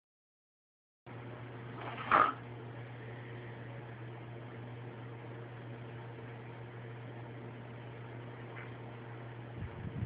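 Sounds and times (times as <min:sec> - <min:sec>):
low hum and hiss: 0:01.1 - 0:10.0.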